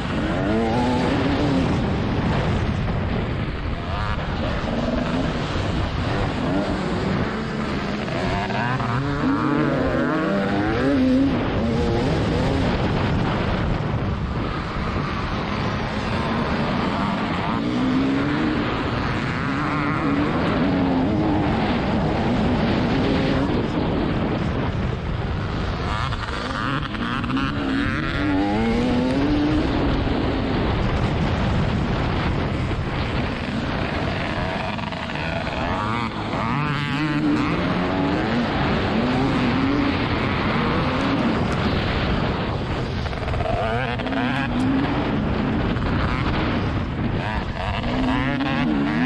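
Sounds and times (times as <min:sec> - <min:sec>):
motocross bike engine revving: 0:00.0 - 0:49.0
wind noise: 0:00.0 - 0:49.0.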